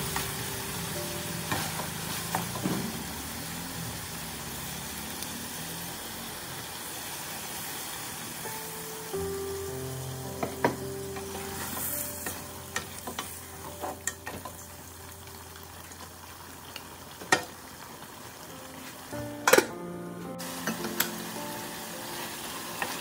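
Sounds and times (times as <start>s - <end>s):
meat sizzling in a pot: 0.0s - 23.0s.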